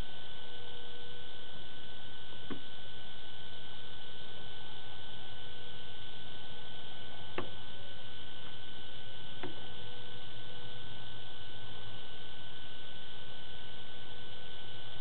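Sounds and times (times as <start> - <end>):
electronic hum and hiss: 0.0 - 15.0
thin whine: 0.0 - 15.0.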